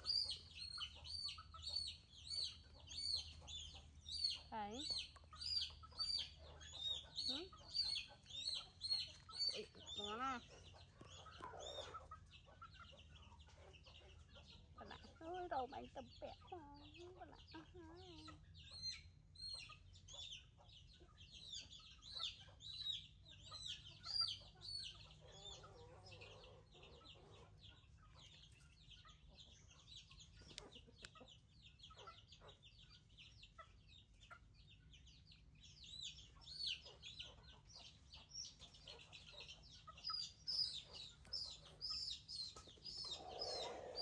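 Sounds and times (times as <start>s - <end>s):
chickens peeping: 0.0s - 44.0s.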